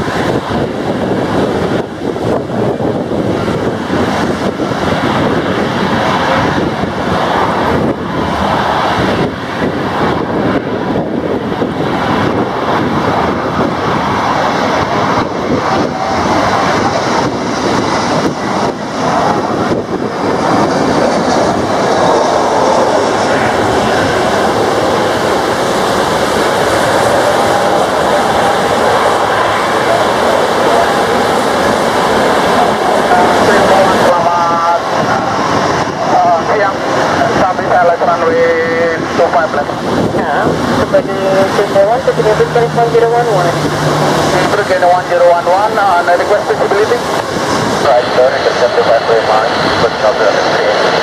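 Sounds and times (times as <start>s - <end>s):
heavy rain: 0.0s - 49.4s
jet engines of landing plane: 0.0s - 51.0s
wind buffeting microphone: 0.0s - 51.0s.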